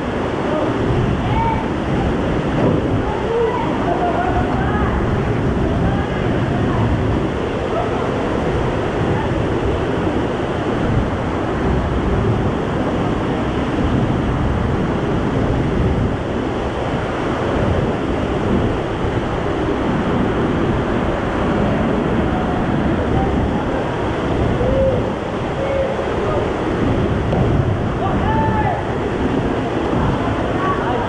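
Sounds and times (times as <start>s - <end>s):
waterfall rushing into pool: 0.0s - 31.0s.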